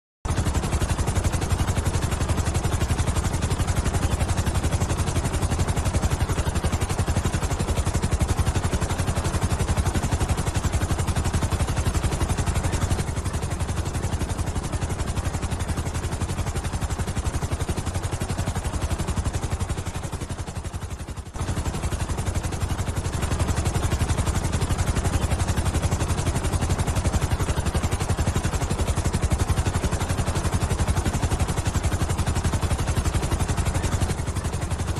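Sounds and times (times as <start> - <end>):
helicopter engine whine: 0.3 - 34.9
helicopter rotor beat: 0.3 - 34.9.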